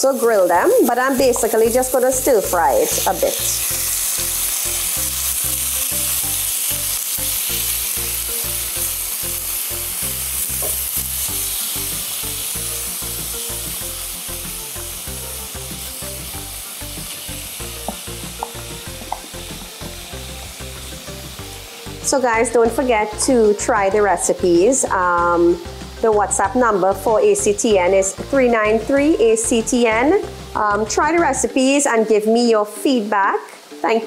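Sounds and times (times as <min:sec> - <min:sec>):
chicken sizzling in frying pan: 0:00.0 - 0:34.0.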